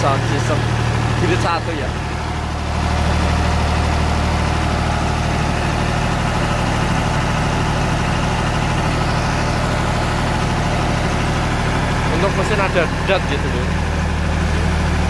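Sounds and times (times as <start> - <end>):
generator diesel engine droning: 0.0 - 15.0.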